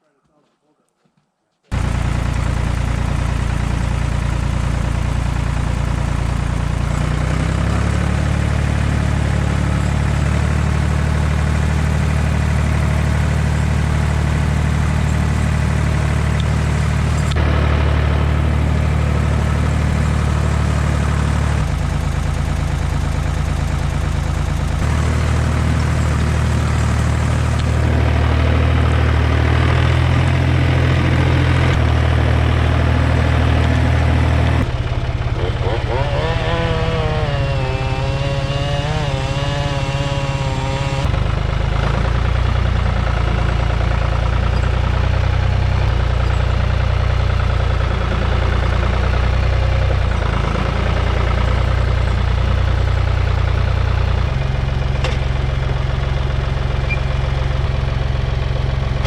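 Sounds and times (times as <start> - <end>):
tractor engine running: 1.7 - 59.0.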